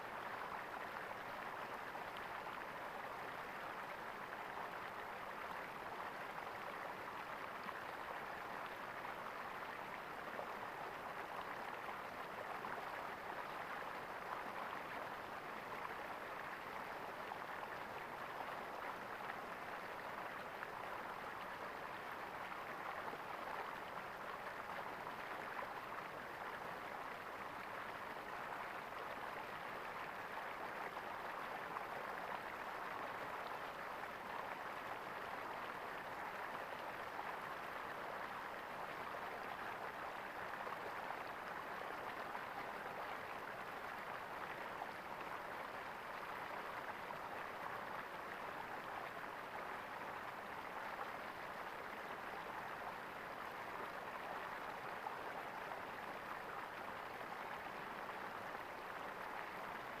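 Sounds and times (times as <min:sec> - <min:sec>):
stream gurgling over stones: 0:00.0 - 1:00.0.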